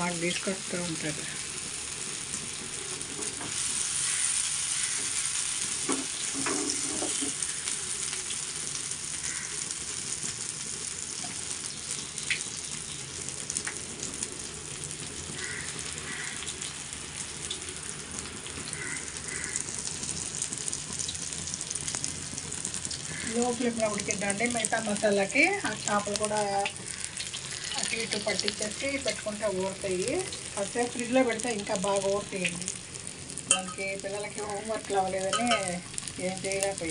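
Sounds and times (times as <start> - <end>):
fish sizzling in oil: 0.0 - 36.9.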